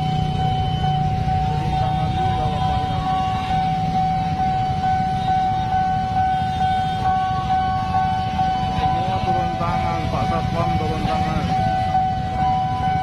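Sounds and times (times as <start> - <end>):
idling motorbikes and cars: 0.0 - 13.0
level-crossing alarm tone: 0.0 - 13.0.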